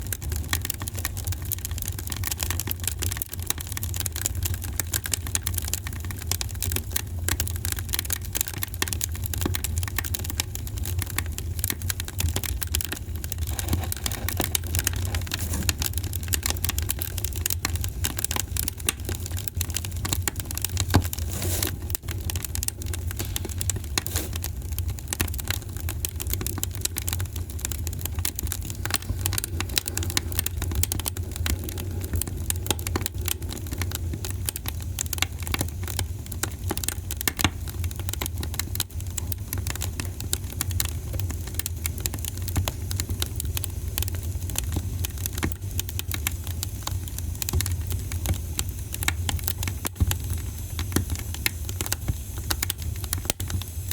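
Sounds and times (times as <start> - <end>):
low fire rumble: 0.0 - 53.9
wood fire crackling and popping: 0.0 - 53.9.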